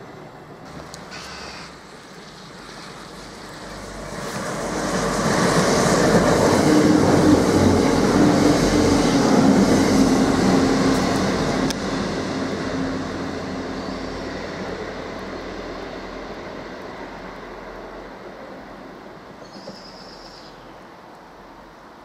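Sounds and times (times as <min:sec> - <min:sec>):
diesel train engine drone: 0:00.0 - 0:22.0
wheel and rail noise: 0:00.0 - 0:22.0.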